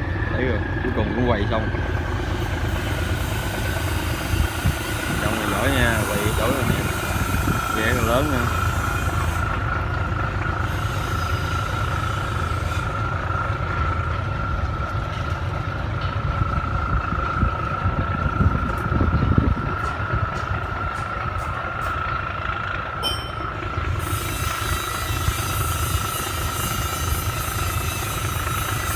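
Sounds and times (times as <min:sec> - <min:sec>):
boat diesel engine rumble: 0:00.0 - 0:28.9
engine high whine: 0:00.0 - 0:28.9.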